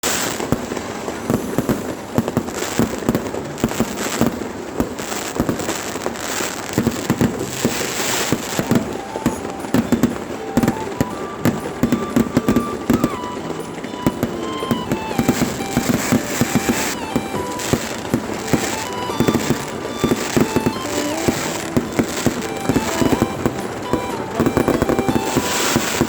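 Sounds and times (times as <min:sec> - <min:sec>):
fireworks bangs and crackles: 0:00.0 - 0:26.0
fireworks hissing: 0:00.0 - 0:26.0.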